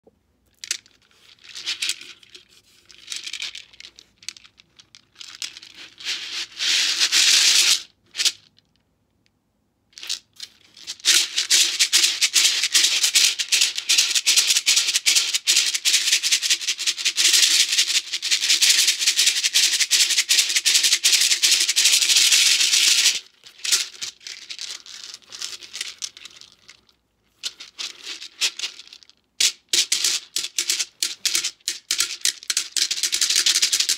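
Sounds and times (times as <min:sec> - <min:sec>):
shekere beads rattling: 0:00.5 - 0:08.5, 0:10.0 - 0:33.9.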